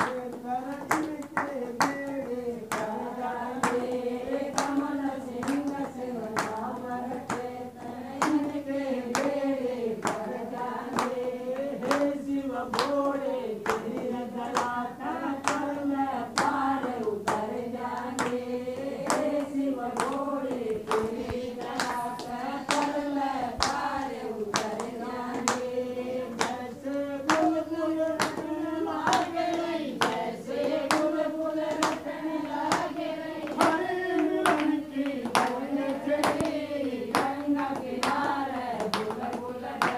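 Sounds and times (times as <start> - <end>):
hand clapping on the beat: 0.0 - 39.9
women singing devotional song: 0.0 - 39.9.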